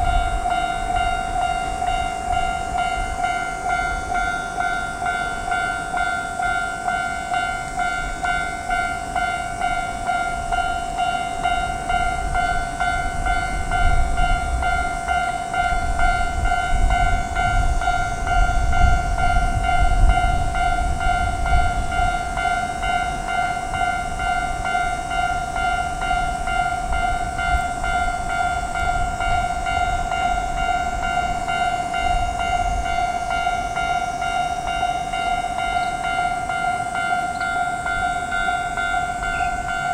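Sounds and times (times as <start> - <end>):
level-crossing warning bell: 0.0 - 39.9
train passing rumble: 0.0 - 39.9.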